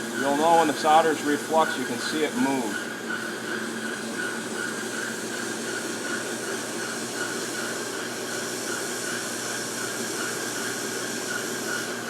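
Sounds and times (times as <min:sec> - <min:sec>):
hot-air blower hissing: 0:00.0 - 0:12.0.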